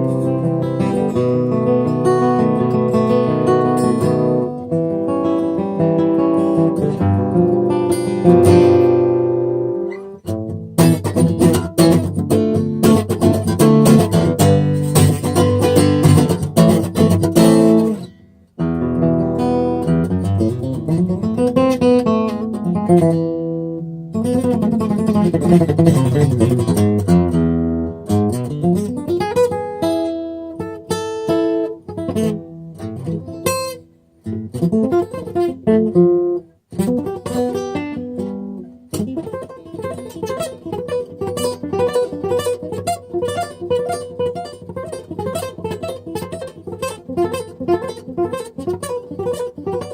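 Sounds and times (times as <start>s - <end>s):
acoustic guitar picking: 0.0s - 49.9s.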